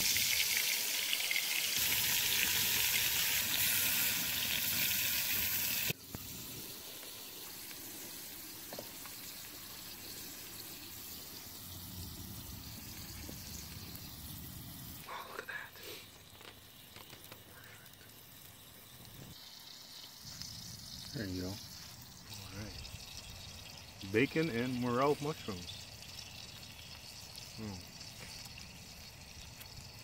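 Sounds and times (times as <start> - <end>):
mushrooms sizzling in a skillet: 0.0 - 30.0.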